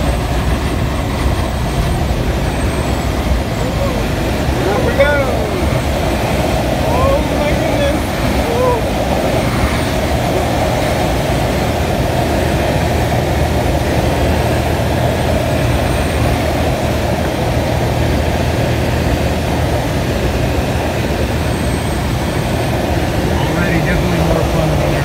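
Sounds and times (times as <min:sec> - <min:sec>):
propeller plane engine drone: 0:00.0 - 0:25.0
rush of air in cockpit: 0:00.0 - 0:25.0.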